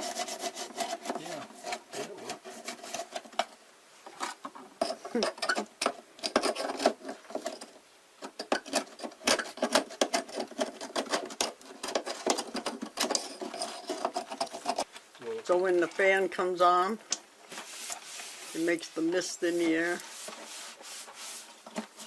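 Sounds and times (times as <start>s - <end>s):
plastic parts being scrubbed: 0.0s - 15.0s, 17.4s - 22.0s.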